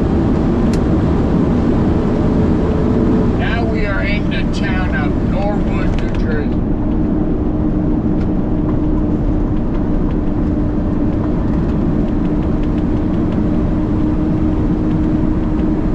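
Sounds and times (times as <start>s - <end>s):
truck engine and road noise: 0.0s - 15.9s.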